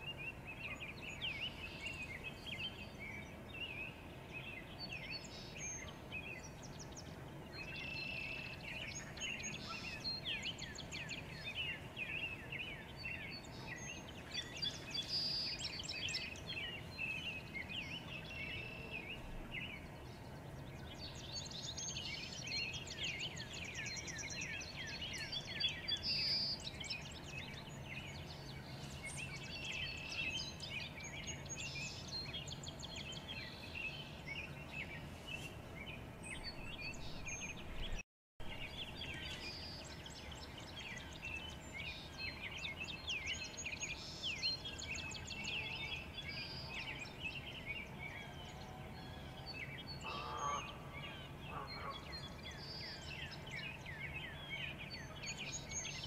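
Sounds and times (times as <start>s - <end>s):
songbirds singing and calling: 0.0s - 56.0s.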